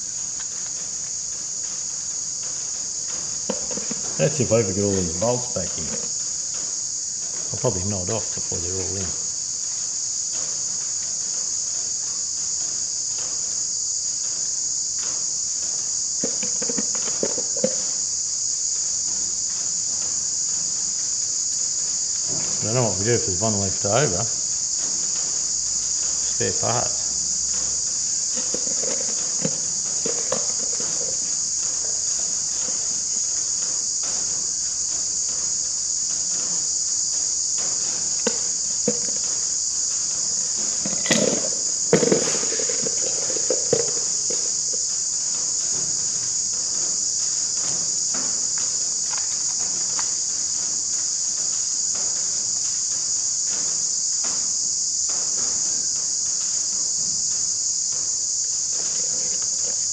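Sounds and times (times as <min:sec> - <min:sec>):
insects chorus: 0:00.0 - 0:59.9.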